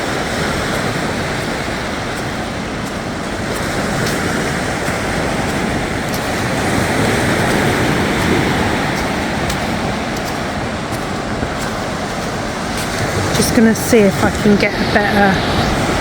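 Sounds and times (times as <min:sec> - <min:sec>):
waves breaking on beach: 0:00.0 - 0:16.0
wind rumbling on microphone: 0:00.0 - 0:16.0.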